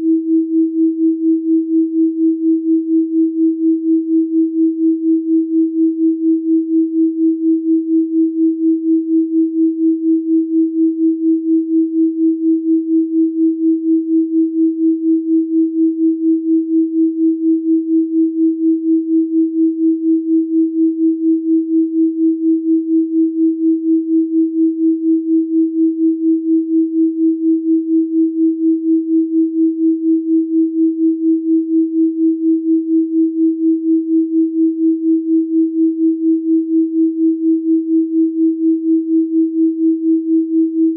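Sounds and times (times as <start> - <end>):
pulsing sine tone: 0.0 - 40.9.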